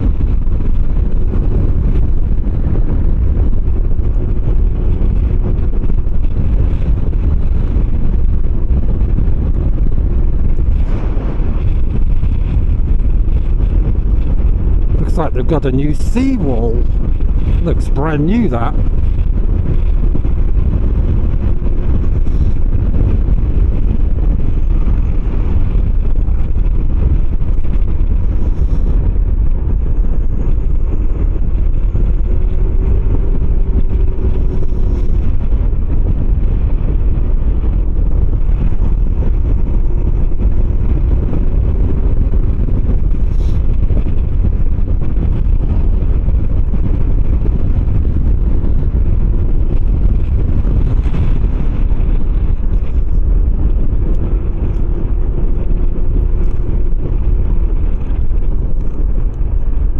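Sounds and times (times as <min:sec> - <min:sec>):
wind rush over microphone: 0:00.0 - 0:59.9.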